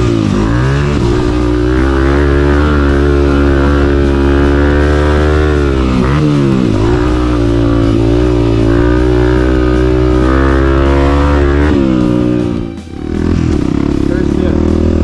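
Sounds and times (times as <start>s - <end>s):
background guitar music: 0.0s - 15.0s
dirt bike engine running: 0.0s - 15.0s.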